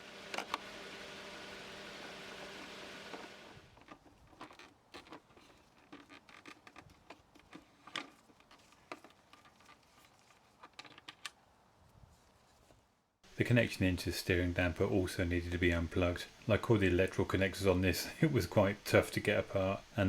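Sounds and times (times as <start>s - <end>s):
steady hiss with hum: 0.0s - 20.0s.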